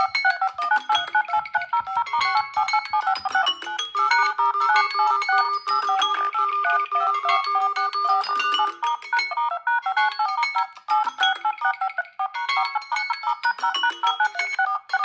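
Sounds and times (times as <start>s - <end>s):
electronic ringtone melody: 0.0s - 15.0s.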